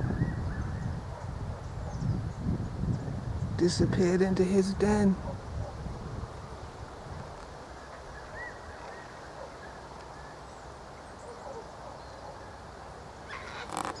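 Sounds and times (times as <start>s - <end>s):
low background noise: 0.4s - 14.0s.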